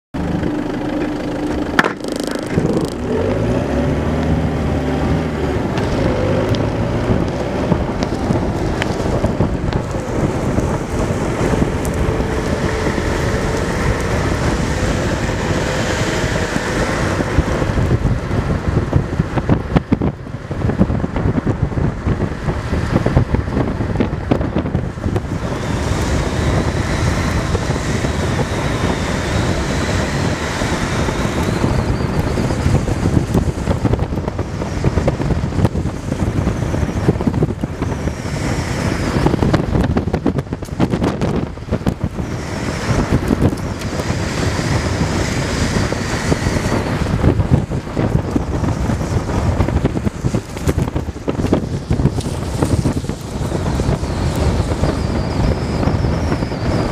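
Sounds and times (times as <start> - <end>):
longboard wheels rolling on asphalt: 0.2 - 56.9
wind buffeting microphone: 0.2 - 56.9.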